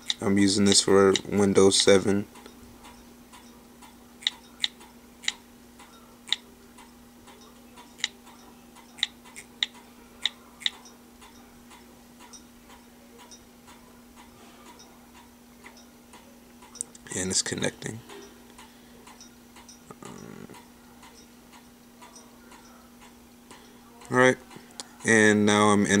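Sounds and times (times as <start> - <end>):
faint regular ticking: 0.0 - 26.0
steady low hum: 0.0 - 26.0.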